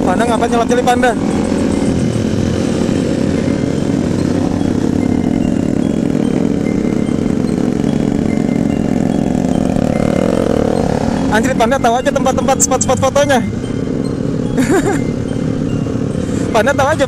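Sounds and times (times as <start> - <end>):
motorcycle engine running: 0.0 - 17.0
other motorcycles riding alongside: 0.0 - 17.0.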